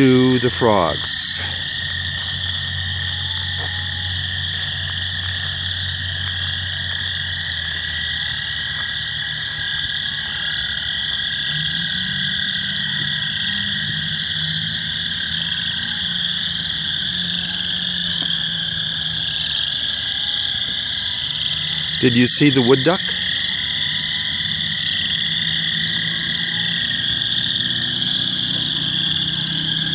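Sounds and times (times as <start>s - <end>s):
chorus of frogs calling: 0.0s - 29.9s.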